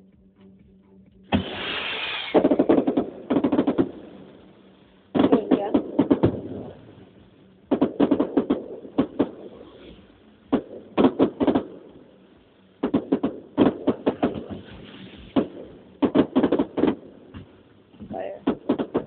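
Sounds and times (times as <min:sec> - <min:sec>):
fireworks bangs: 0:01.3 - 0:12.2, 0:12.8 - 0:19.0.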